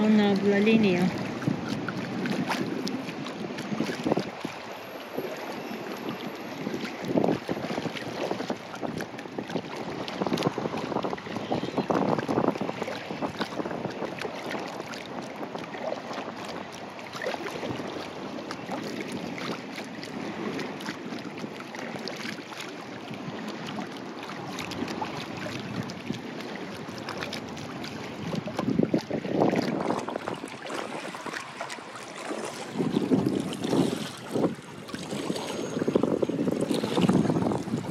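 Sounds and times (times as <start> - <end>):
water lapping and splashing: 0.0 - 37.9
wind buffeting microphone: 0.0 - 37.9.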